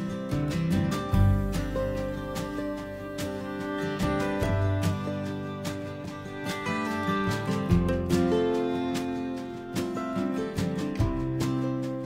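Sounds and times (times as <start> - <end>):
instrumental music with plucked strings: 0.0 - 12.0.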